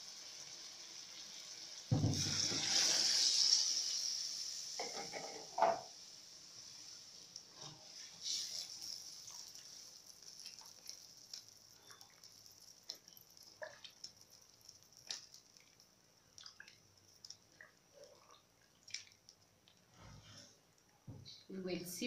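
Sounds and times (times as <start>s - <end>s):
small splashes in hot water: 0.0s - 5.6s, 6.6s - 19.9s
faint high hiss: 0.0s - 22.0s.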